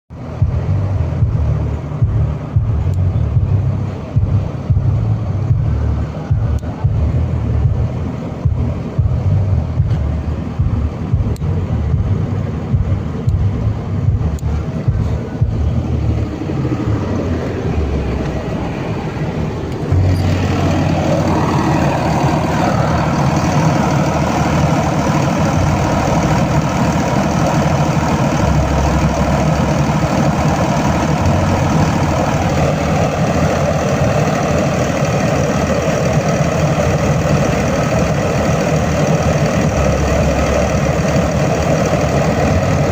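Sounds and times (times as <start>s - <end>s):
generator engine running: 0.1s - 42.9s.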